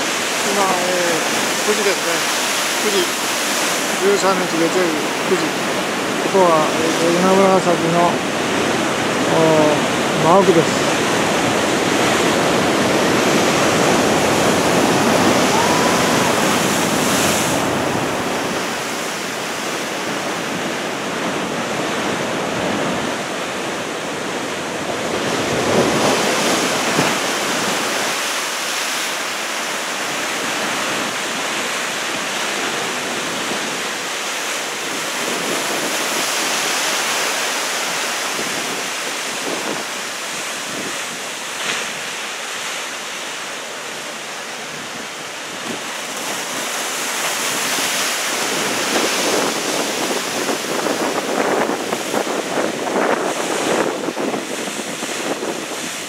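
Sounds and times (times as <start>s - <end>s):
wind on microphone: 0.0s - 28.3s, 30.1s - 42.2s, 44.0s - 56.0s
heavy surf breaking: 0.0s - 56.0s.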